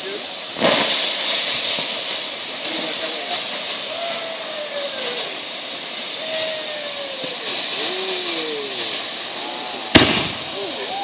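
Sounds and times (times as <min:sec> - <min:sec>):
fireworks spraying with loud hiss: 0:00.0 - 0:11.0.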